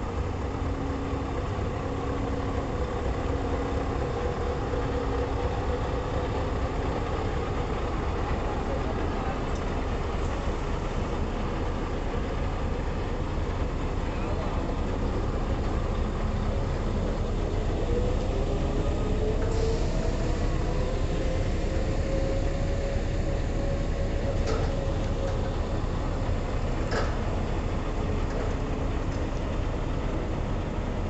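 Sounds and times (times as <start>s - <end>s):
engine rumble: 0.0s - 31.0s.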